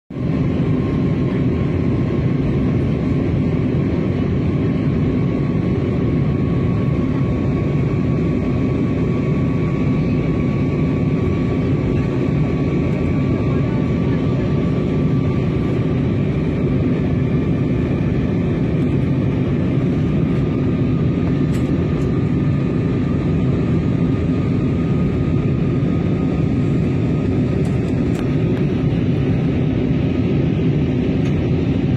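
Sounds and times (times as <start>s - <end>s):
airliner engines droning: 0.1s - 31.9s.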